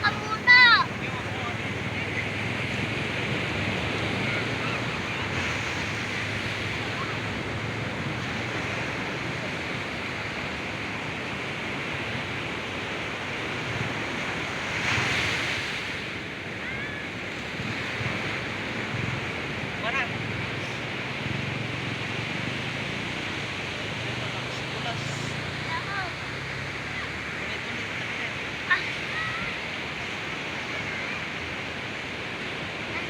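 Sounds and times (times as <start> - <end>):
ocean surf washing onto beach: 0.0 - 33.0.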